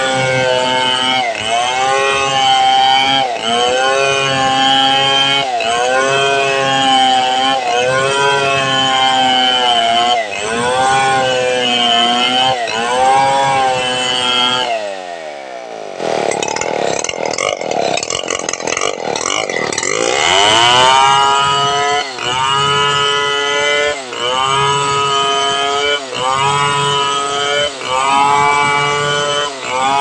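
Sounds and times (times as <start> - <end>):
chainsaw cutting log: 0.0 - 30.0.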